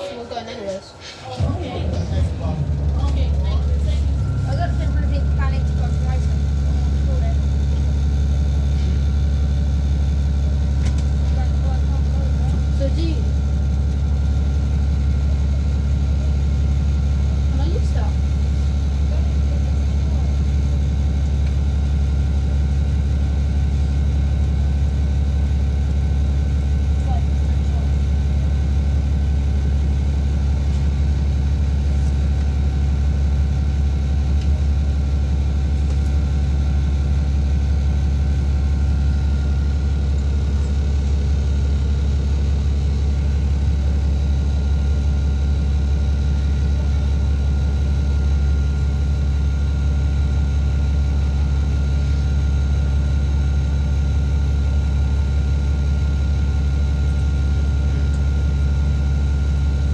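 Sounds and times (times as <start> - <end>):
bus engine idling drone: 0.0 - 59.9.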